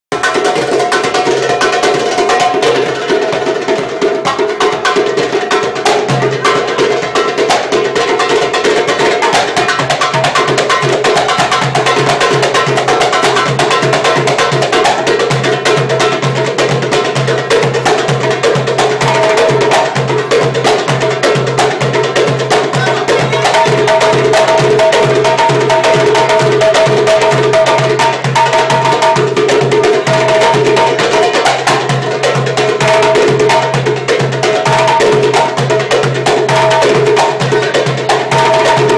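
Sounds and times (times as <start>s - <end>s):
percussion group drumming: 0.1s - 38.9s.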